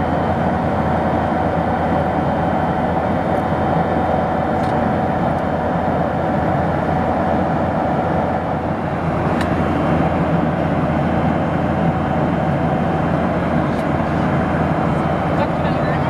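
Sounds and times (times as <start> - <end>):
airplane cabin engine and airflow hum: 0.0 - 16.0.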